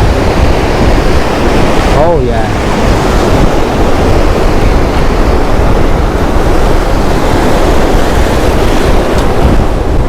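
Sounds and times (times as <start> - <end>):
ocean surf breaking: 0.0 - 10.0
wind buffeting microphone: 0.0 - 10.0.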